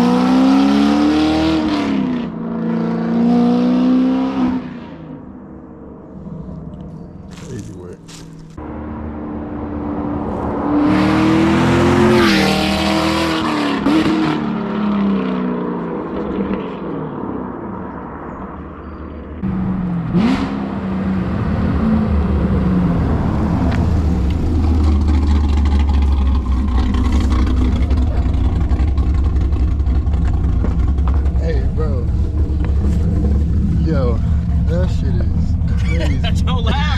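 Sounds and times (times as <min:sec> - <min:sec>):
car engine accelerating hard: 0:00.0 - 0:05.2, 0:08.6 - 0:18.2, 0:19.4 - 0:36.9.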